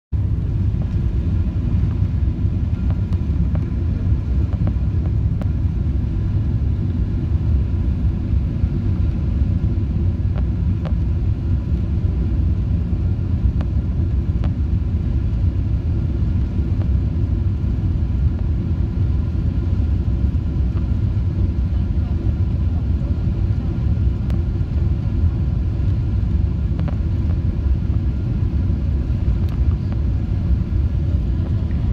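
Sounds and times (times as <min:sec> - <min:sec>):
airflow and engine rumble in cabin: 0:00.1 - 0:31.9.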